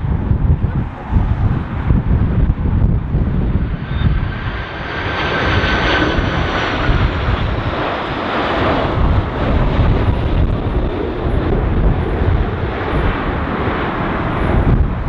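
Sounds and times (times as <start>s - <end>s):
jet engines whining: 0.0s - 15.0s
wind buffeting microphone: 0.0s - 15.0s.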